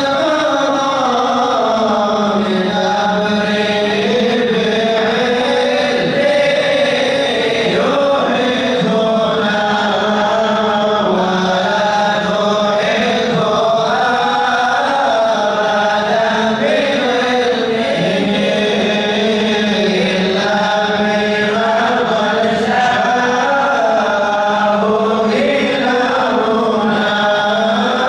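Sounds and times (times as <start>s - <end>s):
men chanting together: 0.0s - 28.0s.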